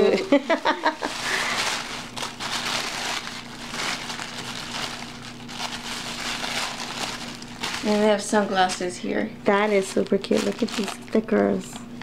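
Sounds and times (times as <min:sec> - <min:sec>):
tissue paper rustling and crinkling: 0:00.8 - 0:09.0, 0:09.6 - 0:11.1.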